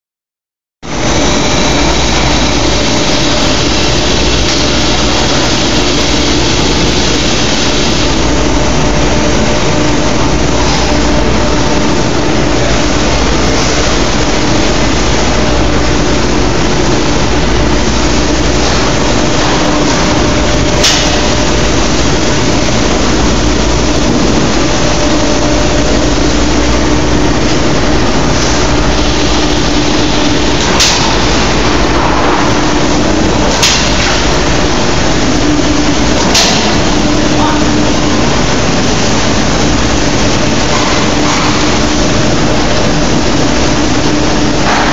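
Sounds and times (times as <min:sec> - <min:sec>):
industrial machinery drone: 0:00.8 - 0:44.9.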